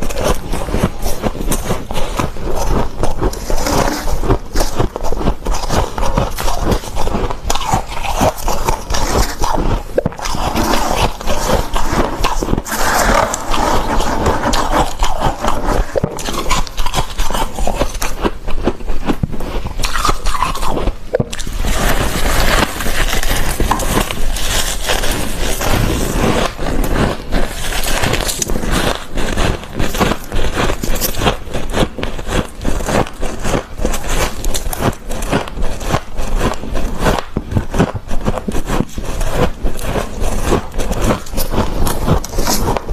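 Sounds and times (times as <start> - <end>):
frost crunching while eaten: 0.0 - 42.9.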